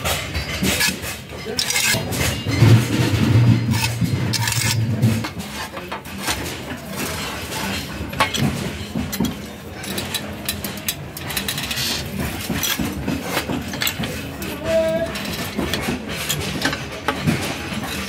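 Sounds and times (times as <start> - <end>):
steel plate scraping on metal: 0.0 - 18.0.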